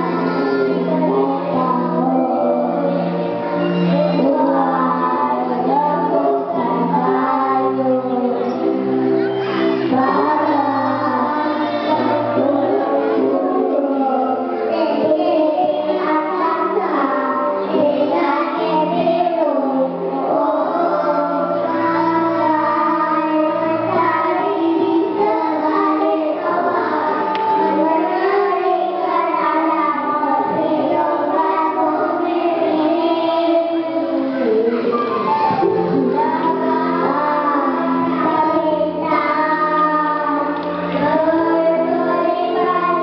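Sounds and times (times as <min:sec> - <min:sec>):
recorded music backing track: 0:00.0 - 0:43.0
young children singing: 0:00.0 - 0:43.0.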